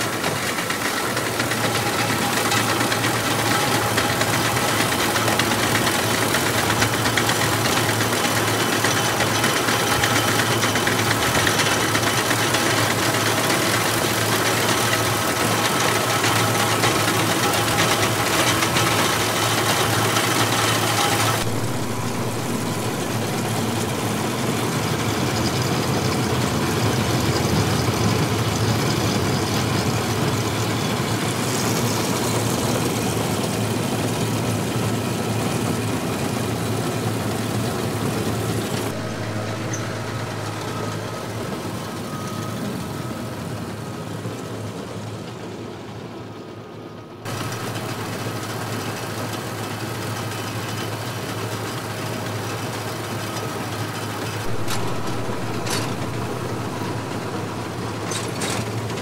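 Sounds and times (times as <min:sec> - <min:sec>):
baler and tractor running: 0:00.0 - 0:59.0.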